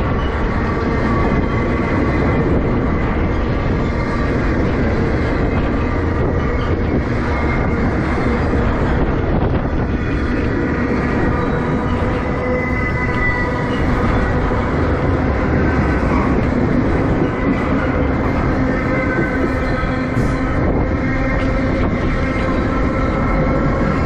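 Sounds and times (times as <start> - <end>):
train wheels rumbling on rails: 0.0 - 24.0
wheels squealing: 0.0 - 24.0.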